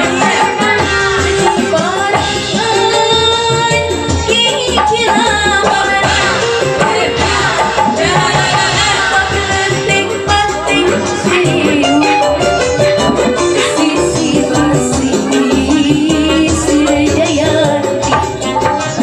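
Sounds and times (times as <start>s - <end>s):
live band music: 0.0s - 19.0s
steady drum beat: 0.0s - 19.0s
woman singing into a microphone: 0.0s - 19.0s.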